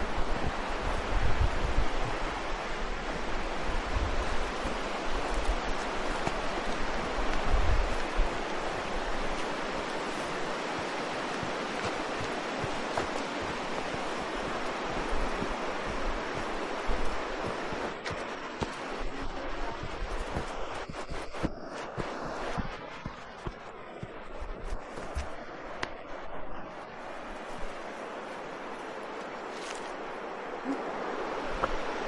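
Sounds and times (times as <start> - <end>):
waterfall rushing: 0.0 - 25.8
wind buffeting microphone: 0.0 - 32.0.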